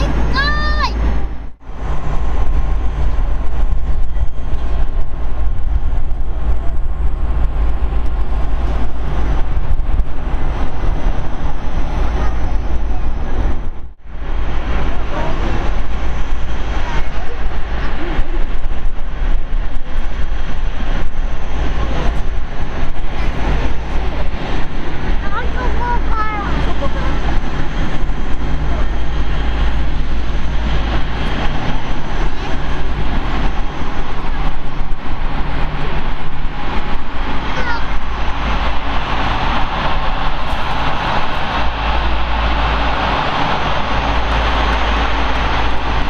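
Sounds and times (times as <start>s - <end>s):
jet engines: 0.0s - 46.0s
wind rumble on microphone: 0.0s - 46.0s.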